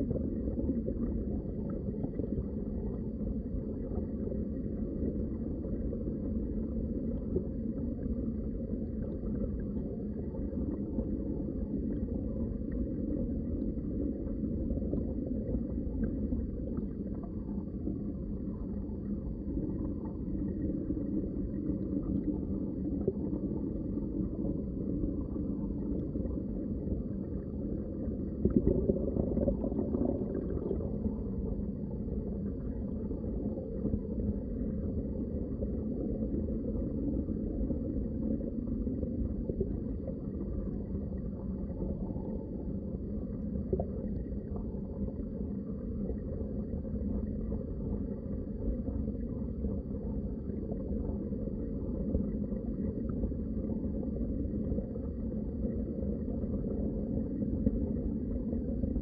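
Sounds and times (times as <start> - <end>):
muffled underwater rush of water: 0.0 - 59.0.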